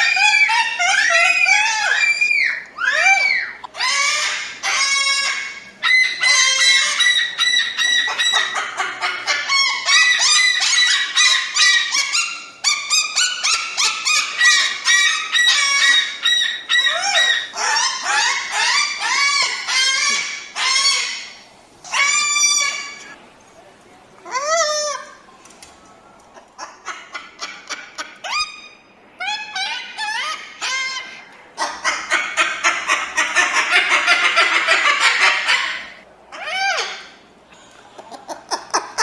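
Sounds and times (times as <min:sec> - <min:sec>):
cockatoo shrill calls: 0:00.0 - 0:23.2, 0:26.6 - 0:37.2.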